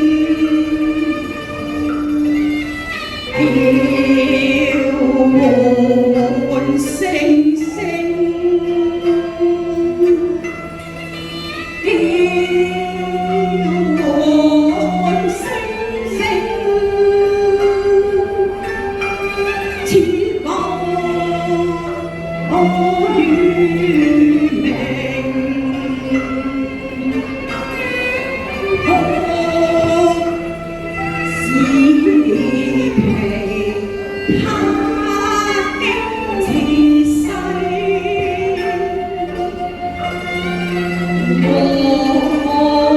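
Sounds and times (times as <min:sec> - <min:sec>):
instrumental accompaniment: 0:00.0 - 0:42.9
opera singing voice: 0:00.0 - 0:42.9.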